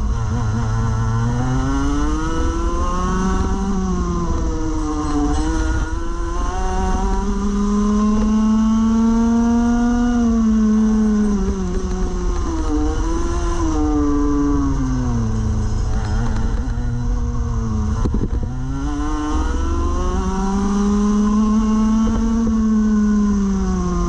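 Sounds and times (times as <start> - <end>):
kart engine revving: 0.0 - 24.0
rumble of wind and tyres: 0.0 - 24.0.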